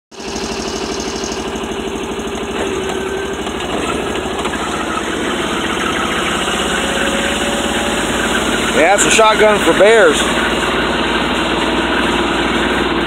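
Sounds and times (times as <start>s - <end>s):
vehicle engine chugging: 0.1s - 13.0s.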